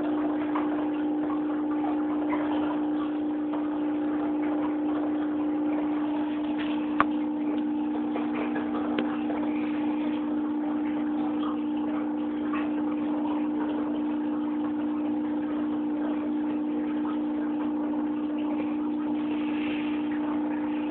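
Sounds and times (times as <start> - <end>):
aquarium pump humming: 0.0 - 20.9
water bubbling and trickling: 0.0 - 20.9.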